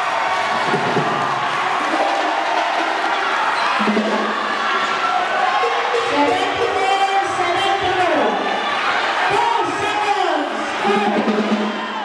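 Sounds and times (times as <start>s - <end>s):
crowd cheering and chattering: 0.0s - 12.0s.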